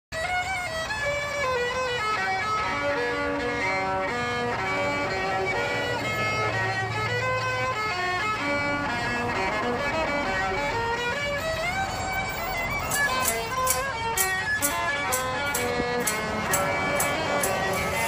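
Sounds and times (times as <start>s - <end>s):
solo violin playing quick melody: 0.2s - 18.0s.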